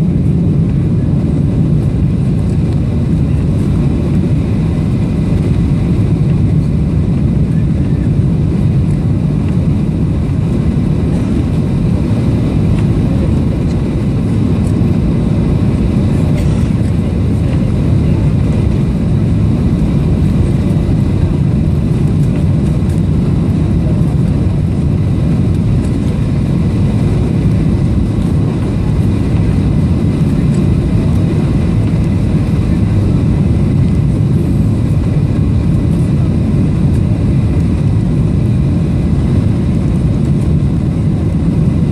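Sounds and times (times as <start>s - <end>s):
high engine whine: 0.0s - 41.9s
jet engine and airflow rumble: 0.0s - 41.9s.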